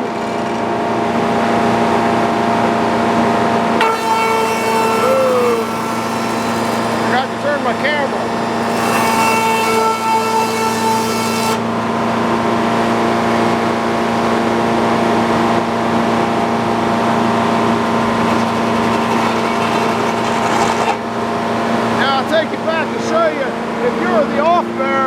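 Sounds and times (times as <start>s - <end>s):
sawmill engine drone: 0.0s - 24.9s.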